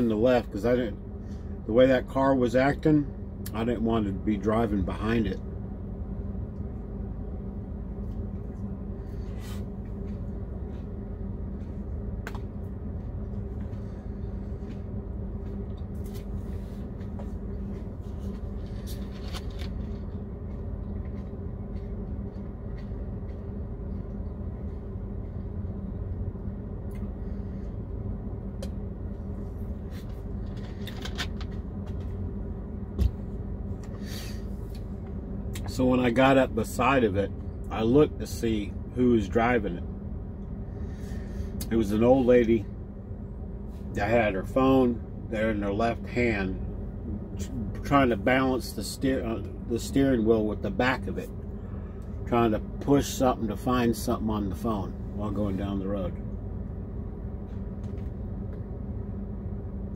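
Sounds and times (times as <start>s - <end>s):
low hum inside truck cab: 0.0s - 59.9s.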